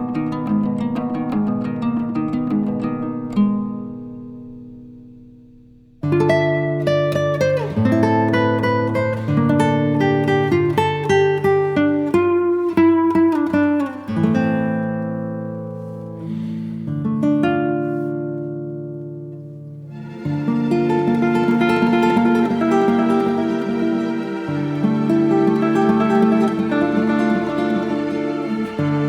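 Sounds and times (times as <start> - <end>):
plucked acoustic guitar: 0.0 - 29.0.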